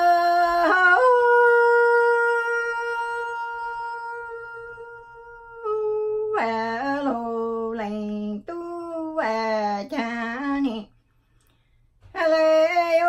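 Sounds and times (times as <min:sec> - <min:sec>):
woman singing unaccompanied: 0:00.0 - 0:11.0, 0:12.0 - 0:13.0.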